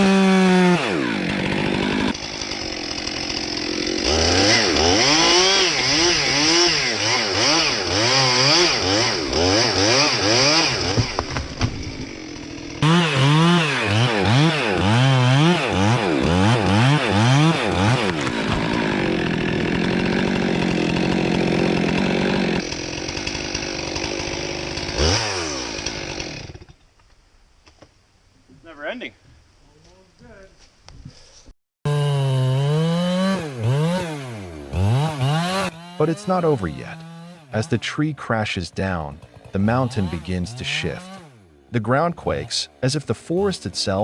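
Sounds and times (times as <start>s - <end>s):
chainsaw engine revving: 0.0s - 26.7s, 31.9s - 44.0s.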